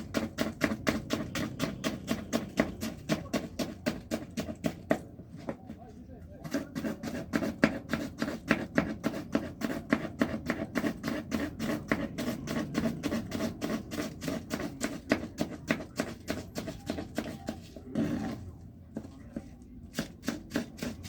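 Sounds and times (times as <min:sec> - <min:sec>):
knife chopping on cutting board: 0:00.0 - 0:05.1, 0:06.4 - 0:18.4, 0:19.9 - 0:21.0.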